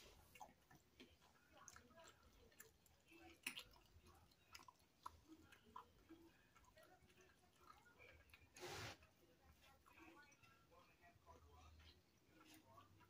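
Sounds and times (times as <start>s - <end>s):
chewing sandwich: 0.0s - 13.0s.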